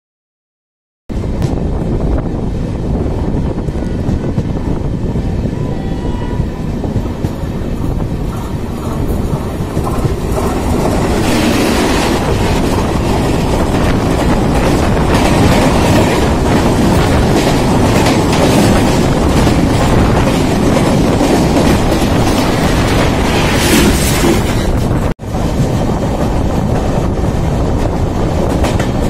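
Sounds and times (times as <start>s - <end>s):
moving train running noise: 1.1s - 29.0s
passing train rush: 1.1s - 29.0s.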